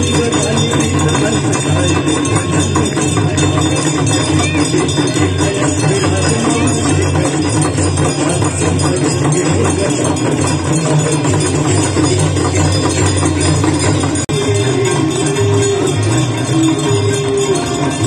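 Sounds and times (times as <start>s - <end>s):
temple bells ringing rapidly: 0.0s - 18.0s.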